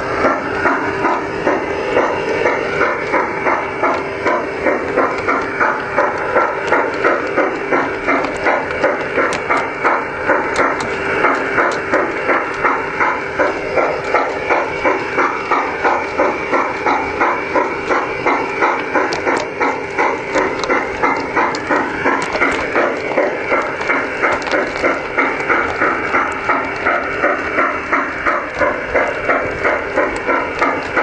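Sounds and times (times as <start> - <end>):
model train chuffing: 0.0 - 31.0.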